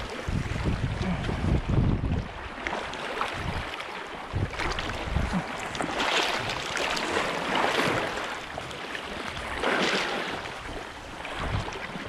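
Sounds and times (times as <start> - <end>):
waves washing against rocks: 0.0 - 12.0
wind rumbling on microphone: 0.0 - 12.0.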